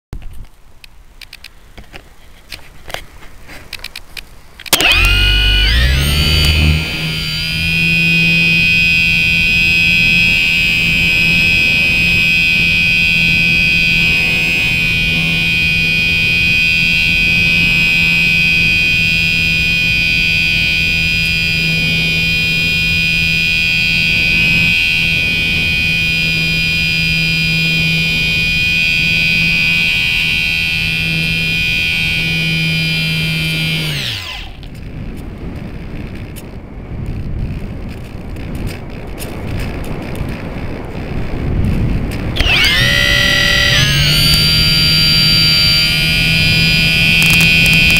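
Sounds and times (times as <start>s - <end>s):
electric motor and propeller whine: 4.6s - 36.8s, 37.8s - 47.9s.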